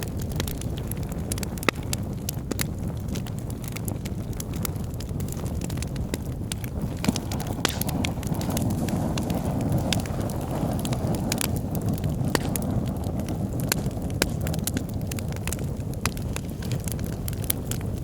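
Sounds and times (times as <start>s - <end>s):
burning logs crackling and popping: 0.0s - 18.0s
fire rumbling: 0.0s - 18.0s.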